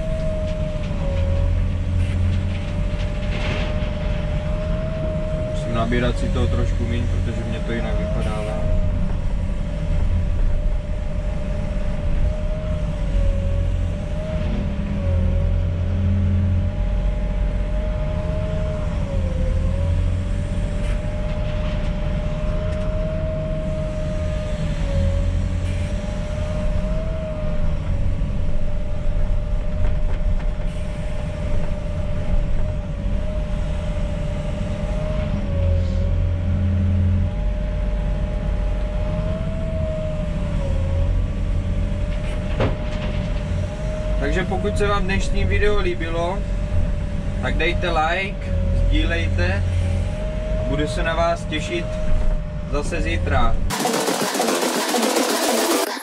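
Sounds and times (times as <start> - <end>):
diesel engine rumble: 0.0 - 56.0
excavator hydraulic whine: 0.0 - 56.0.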